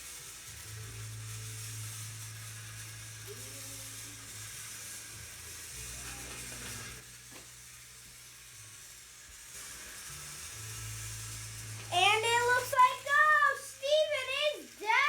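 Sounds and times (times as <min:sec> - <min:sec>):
toy train motor hum: 0:00.0 - 0:15.0.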